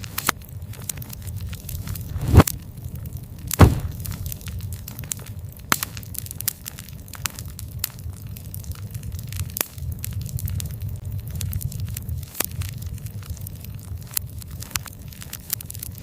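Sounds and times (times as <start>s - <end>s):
fire popping and snapping: 0.0s - 16.0s
wood fire crackling: 0.0s - 16.0s.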